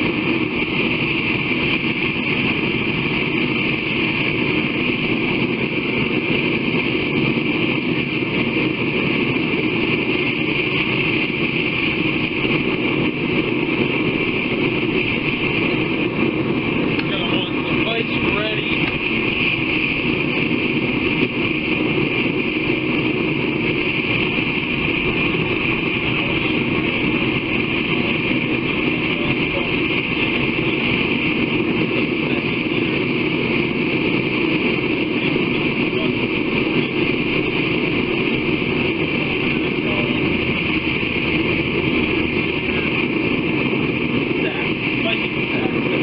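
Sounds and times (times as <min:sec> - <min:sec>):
steady machine noise: 0:00.0 - 0:46.0.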